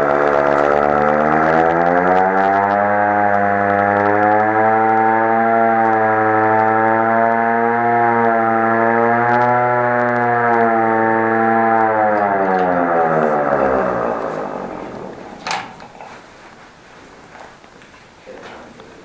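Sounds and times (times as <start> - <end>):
hand-cranked siren wailing: 0.0 - 16.3.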